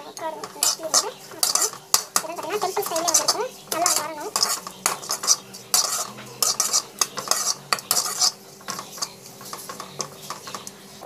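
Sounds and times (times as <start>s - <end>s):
spatula scraping a pan: 0.0s - 11.0s.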